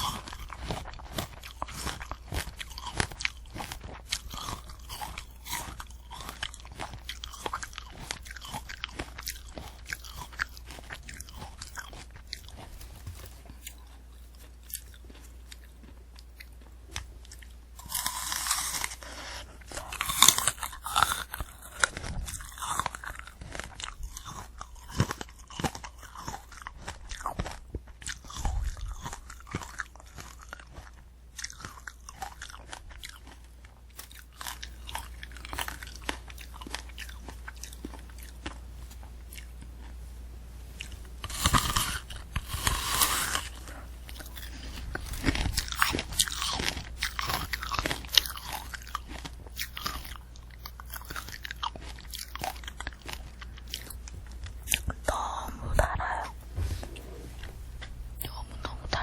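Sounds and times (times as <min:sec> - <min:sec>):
chewing and crunching candy apple: 0:00.0 - 0:59.0.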